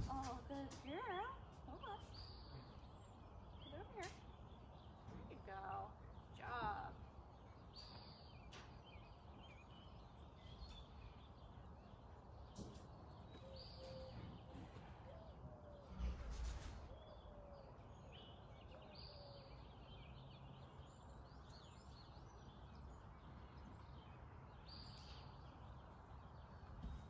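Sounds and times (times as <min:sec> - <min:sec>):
faint bird chirps: 0:00.0 - 0:27.0.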